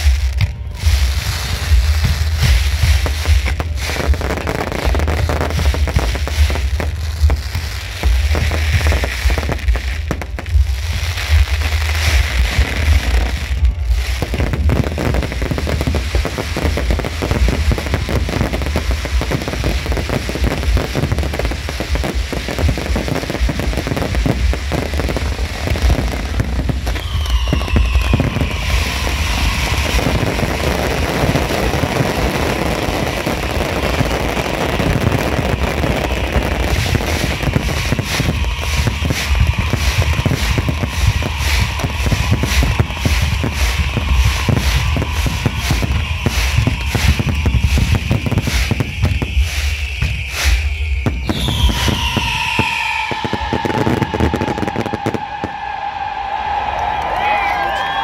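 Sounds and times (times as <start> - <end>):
fireworks booming: 0.0 - 57.2
falling firework whistle: 0.0 - 58.0
fireworks crackling: 0.0 - 58.0.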